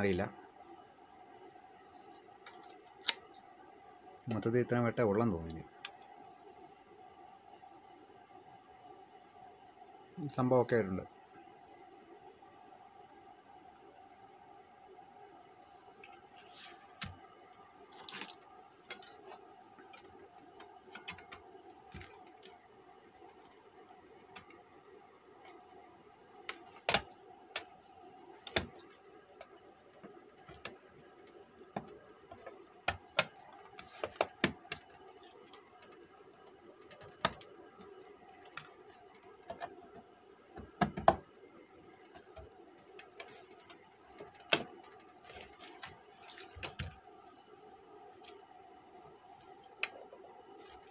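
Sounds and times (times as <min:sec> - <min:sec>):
faint hum: 0:00.0 - 0:50.9.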